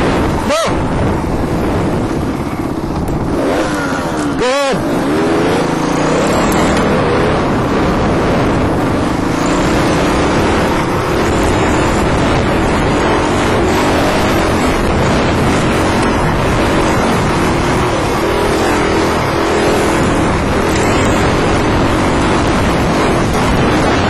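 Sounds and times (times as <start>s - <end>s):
dirt bike engine running: 0.0s - 24.0s
wind rushing noise: 0.0s - 24.0s.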